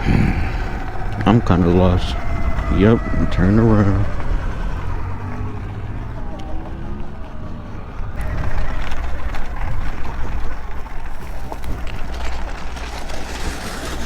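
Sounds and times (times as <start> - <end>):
low rumble of bike: 0.0 - 14.0
wind rushing over microphone: 0.0 - 14.0
rattling clicks from tyres: 0.8 - 14.0.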